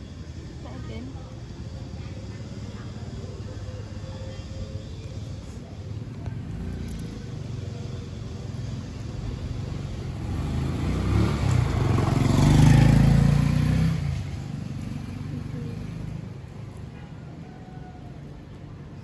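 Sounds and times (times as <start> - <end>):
low traffic rumble: 0.0 - 19.0
motor vehicle passing by: 0.0 - 19.0.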